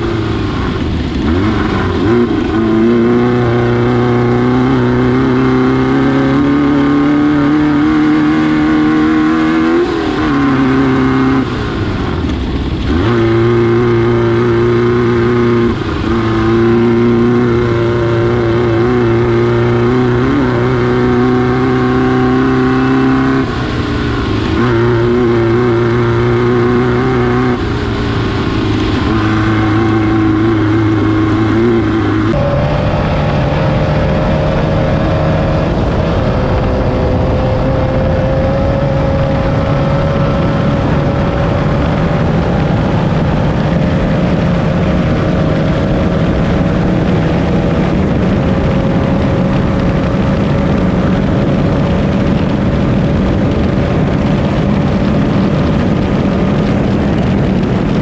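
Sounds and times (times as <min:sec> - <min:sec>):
buggy engine revving high: 0:00.0 - 0:58.0
rough rumble: 0:00.0 - 0:58.0.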